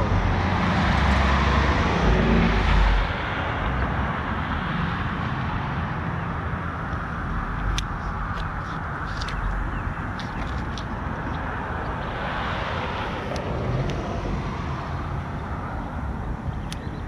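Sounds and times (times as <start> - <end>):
vehicle passing: 0.0 - 17.0.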